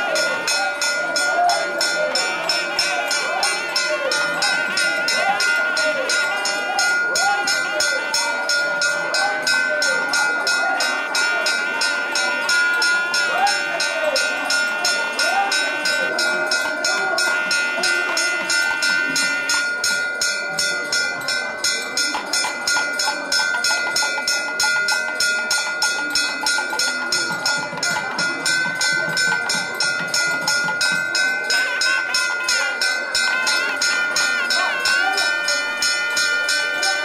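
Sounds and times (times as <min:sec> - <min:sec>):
bell rung rapidly: 0:00.0 - 0:37.0
faint crowd voices: 0:00.0 - 0:37.0.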